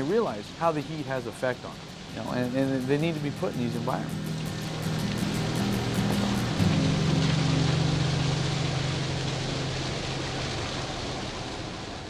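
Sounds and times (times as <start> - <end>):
fire hose water rushing: 0.0 - 12.0
low steady hum: 0.0 - 12.0.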